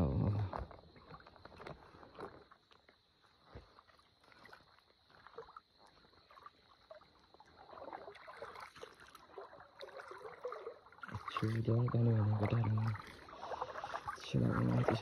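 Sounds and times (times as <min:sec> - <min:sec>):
footsteps wading through water: 0:00.0 - 0:15.0.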